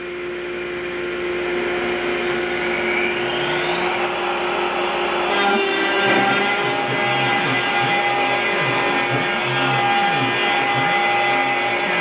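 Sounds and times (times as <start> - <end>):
dust collection vacuum running: 0.0 - 12.0
router spindle motor whine: 0.0 - 12.0
router bit cutting wood: 2.0 - 12.0.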